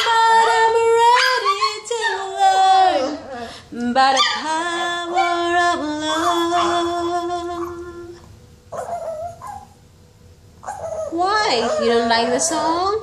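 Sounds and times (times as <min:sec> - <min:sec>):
dog howling: 0:00.0 - 0:03.5, 0:04.1 - 0:08.0, 0:08.7 - 0:09.8, 0:10.6 - 0:12.8.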